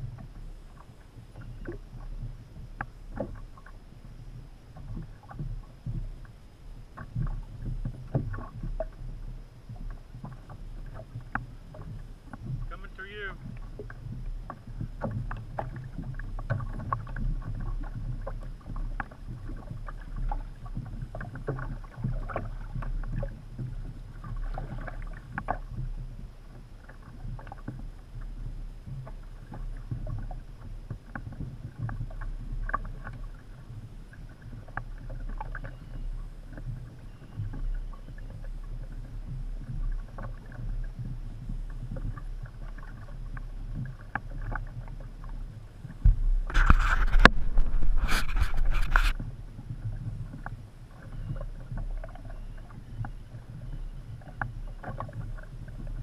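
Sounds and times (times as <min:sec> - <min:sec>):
low steady rumble: 0:00.0 - 0:56.0
water lapping against hull: 0:00.0 - 0:56.0.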